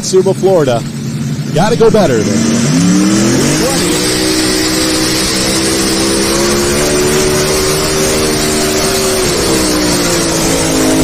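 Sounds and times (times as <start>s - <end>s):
vehicle engine revving under load: 0.0s - 11.0s.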